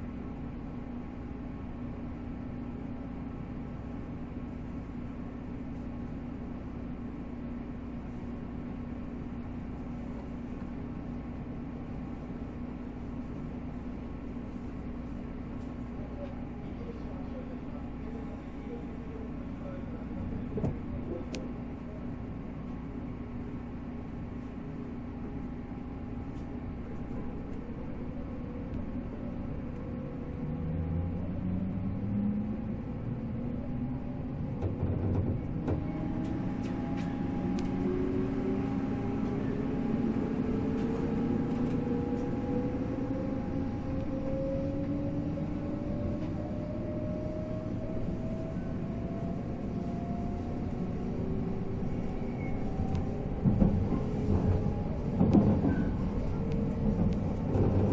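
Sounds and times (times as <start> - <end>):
train running gear rumble: 0.0 - 57.9.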